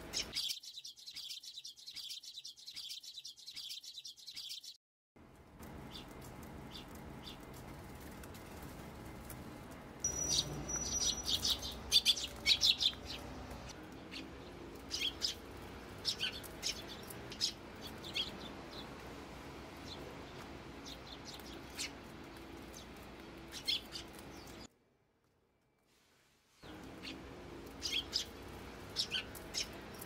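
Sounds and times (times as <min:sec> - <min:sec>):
sparrows chirping: 0:00.0 - 0:04.8, 0:05.6 - 0:09.4, 0:10.0 - 0:24.7, 0:26.6 - 0:30.0.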